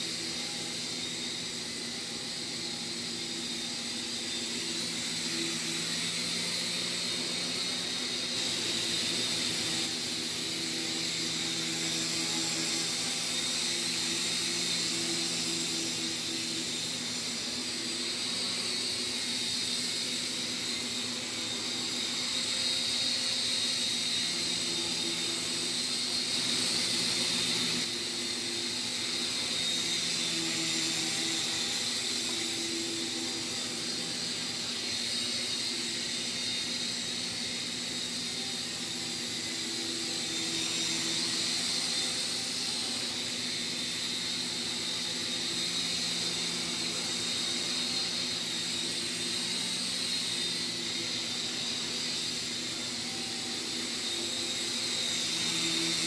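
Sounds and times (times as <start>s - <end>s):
toy helicopter rotor whine: 0.0s - 56.0s.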